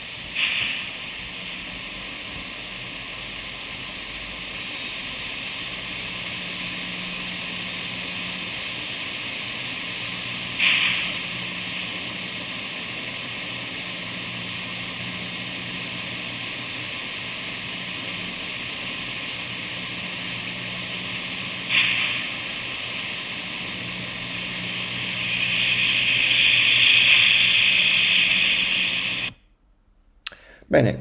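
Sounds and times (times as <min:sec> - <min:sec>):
diesel generator humming: 0:00.0 - 0:29.4.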